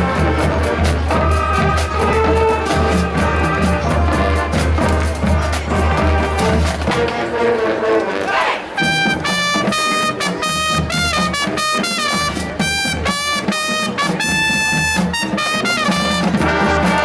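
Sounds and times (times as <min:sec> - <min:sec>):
brass melody: 0:00.0 - 0:17.0
drums: 0:00.0 - 0:17.0
marching band playing: 0:00.0 - 0:17.0.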